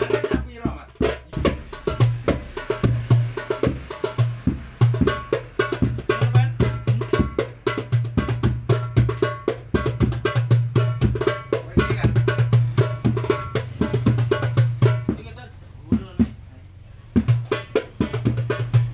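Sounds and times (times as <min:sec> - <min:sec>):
hand drum fast rhythm: 0:00.0 - 0:16.4, 0:17.1 - 0:18.9.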